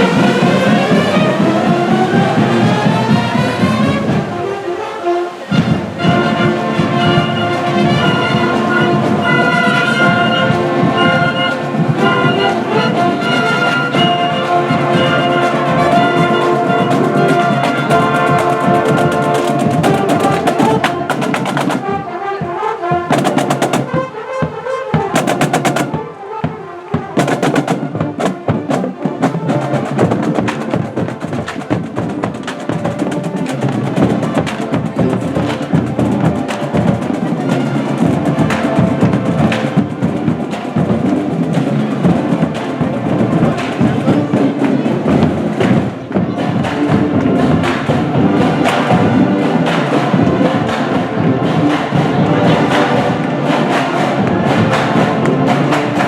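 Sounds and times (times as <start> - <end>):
drums playing alone: 0.0 - 4.4, 5.5 - 56.0
marching band playing: 0.0 - 56.0.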